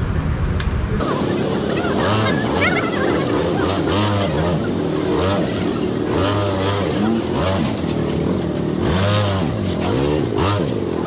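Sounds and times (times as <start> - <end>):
scooter engine revving: 1.0 - 11.0.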